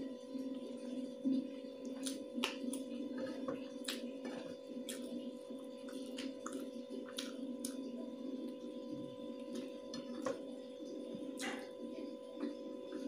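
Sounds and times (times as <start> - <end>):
low electrical hum: 0.0 - 13.0
person chewing with wet smacks: 1.2 - 13.0.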